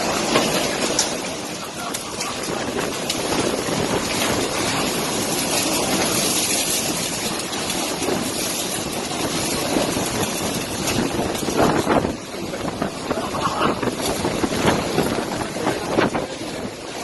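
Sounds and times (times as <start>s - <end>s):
strong winds rushing: 0.0s - 17.0s.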